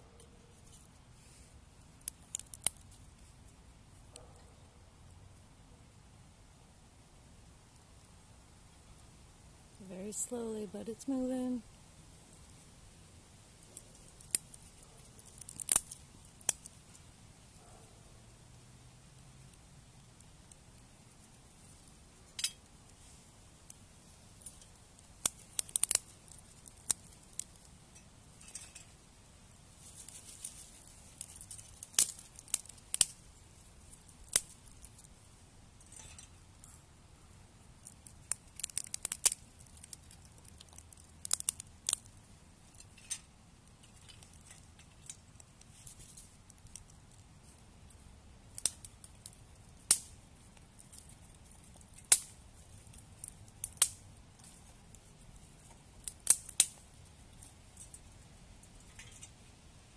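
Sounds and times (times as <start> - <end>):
twig fire crackling: 0.0 - 59.9.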